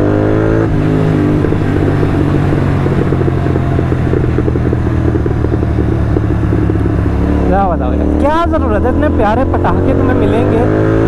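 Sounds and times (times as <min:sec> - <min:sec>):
motorcycle engine revving: 0:00.0 - 0:11.0
exhaust popping crackle: 0:00.2 - 0:11.0.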